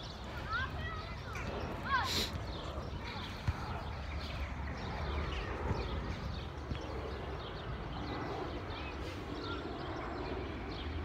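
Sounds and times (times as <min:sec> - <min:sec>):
low wind rumble on microphone: 0:00.0 - 0:11.0
small birds chirping: 0:00.0 - 0:11.0.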